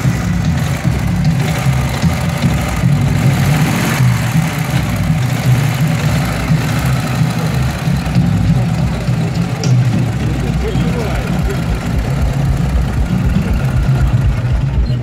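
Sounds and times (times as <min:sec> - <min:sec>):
motorcycle engine chugging: 0:00.0 - 0:15.0.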